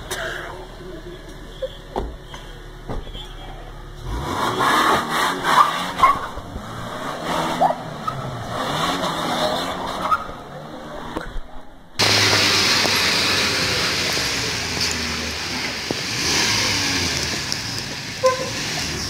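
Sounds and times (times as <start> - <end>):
car engine revving: 0.0 - 11.4, 12.0 - 19.0.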